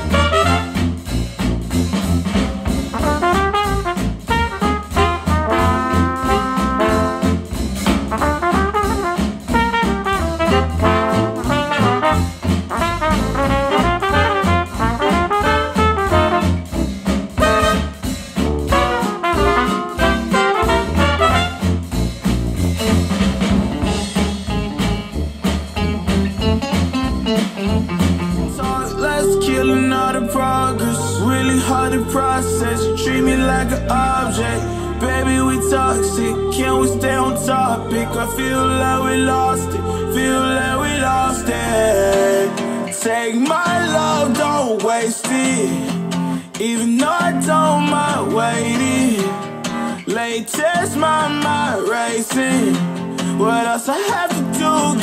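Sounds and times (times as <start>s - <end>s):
swing jazz through speakers: 0.0s - 55.0s.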